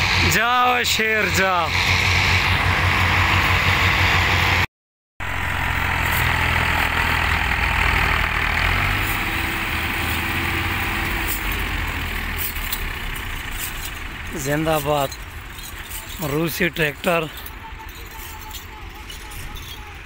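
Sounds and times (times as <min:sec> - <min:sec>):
tractor diesel engines running hard: 0:00.0 - 0:20.0.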